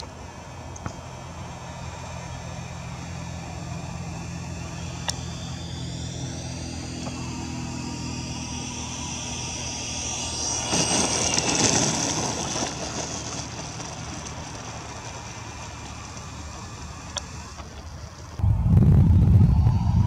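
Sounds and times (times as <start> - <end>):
electric ducted fan whining: 0.0 - 20.0.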